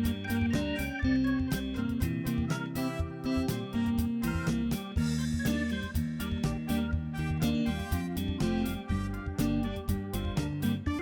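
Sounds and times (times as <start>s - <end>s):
upbeat music with keyboard and bass: 0.0s - 11.0s.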